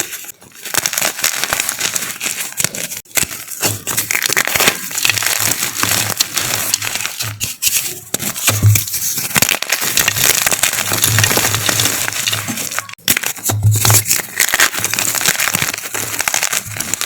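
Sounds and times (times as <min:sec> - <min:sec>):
chalk crunching and crackling: 0:00.0 - 0:17.0.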